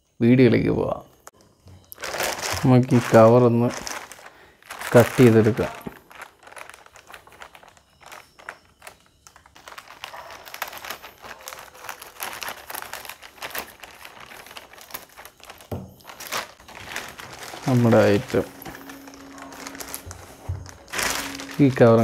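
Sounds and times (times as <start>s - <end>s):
plastic film crinkling: 1.7s - 22.0s.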